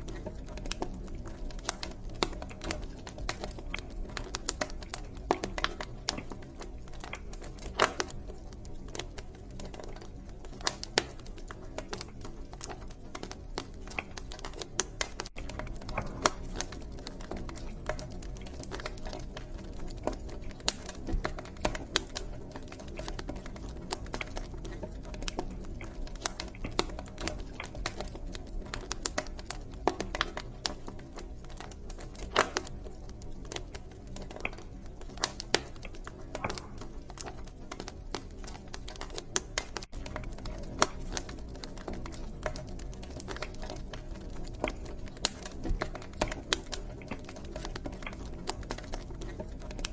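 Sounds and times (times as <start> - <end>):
low rumble of burning: 0.0 - 49.9
wood fire crackling and popping: 0.0 - 49.9.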